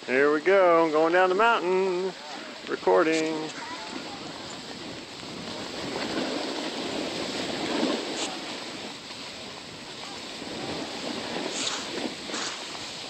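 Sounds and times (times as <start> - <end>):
snowboard scraping on snow: 0.1 - 13.0.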